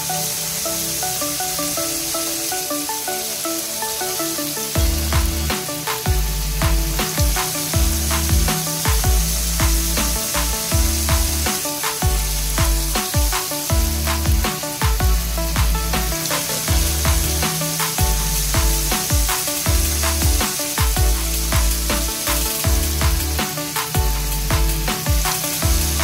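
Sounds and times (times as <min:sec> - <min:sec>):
electronic background music: 0:00.0 - 0:26.0.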